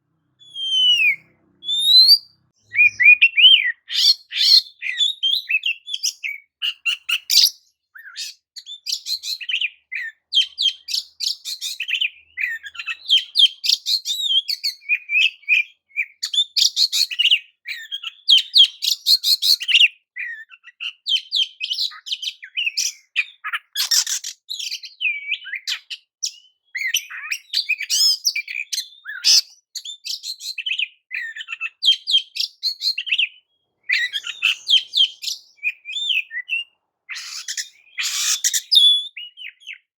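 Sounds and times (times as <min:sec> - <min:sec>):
songbird singing chirps and trills: 0:00.2 - 0:39.9.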